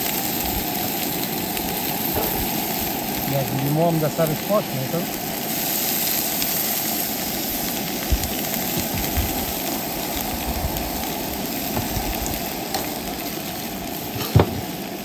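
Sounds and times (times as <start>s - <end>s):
scallops sizzling in a skillet: 0.0s - 15.0s.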